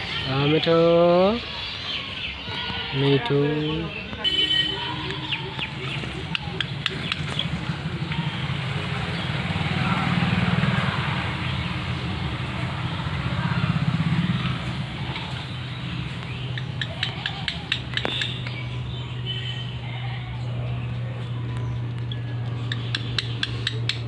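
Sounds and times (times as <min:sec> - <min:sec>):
vehicle engine running: 0:03.9 - 0:24.0.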